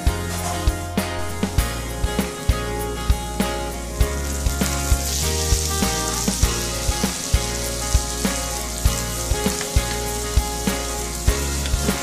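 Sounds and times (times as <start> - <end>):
background music: 0.0 - 12.0
vegetables sizzling in oil: 0.0 - 12.0.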